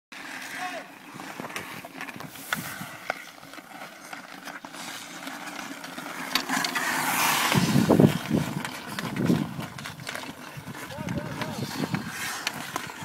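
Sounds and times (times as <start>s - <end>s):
skate blades scraping ice: 0.1s - 13.0s
hockey sticks clacking: 0.2s - 13.0s.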